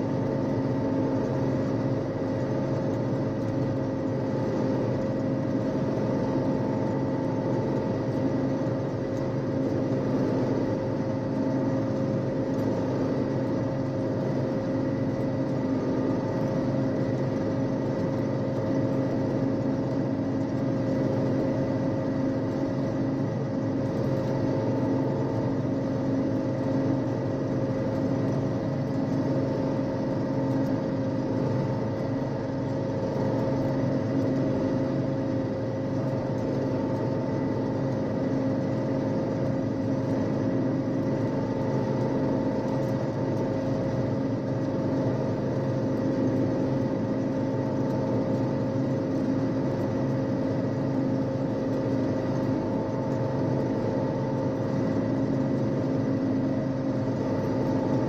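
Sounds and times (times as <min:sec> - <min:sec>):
combine harvester engine drone: 0:00.0 - 0:58.0
steady machine whine: 0:00.0 - 0:58.0.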